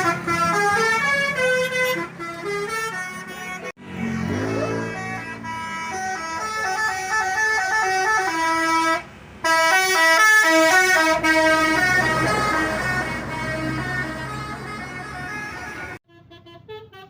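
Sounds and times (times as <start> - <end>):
multi-tone musical bus horn: 0.0 - 17.0.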